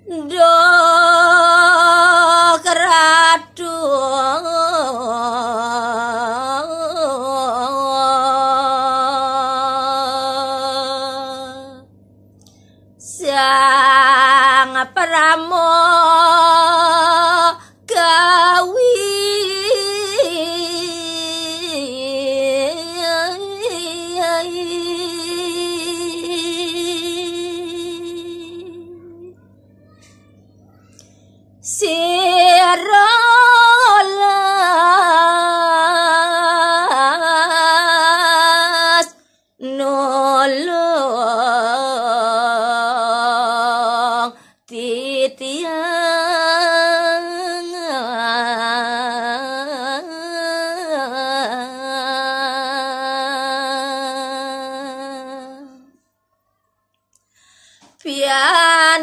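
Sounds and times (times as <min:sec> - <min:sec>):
woman singing unaccompanied: 0:00.0 - 0:11.9, 0:13.0 - 0:29.4, 0:31.0 - 0:56.1, 0:57.9 - 0:59.0.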